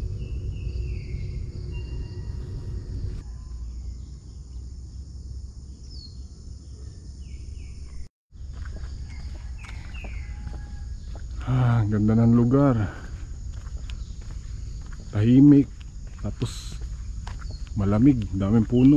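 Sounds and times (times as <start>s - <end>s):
insect chirring: 0.0s - 18.9s.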